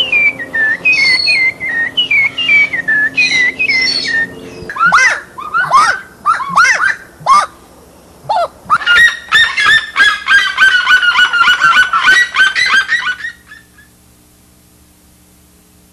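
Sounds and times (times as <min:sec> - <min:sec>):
bird yelping call: 0:00.0 - 0:07.6, 0:08.2 - 0:13.9.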